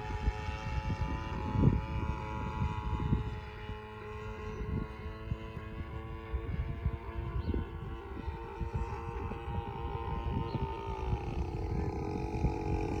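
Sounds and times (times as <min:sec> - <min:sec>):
model airplane engine running: 0:00.0 - 0:13.0
wind buffeting microphone: 0:00.0 - 0:13.0.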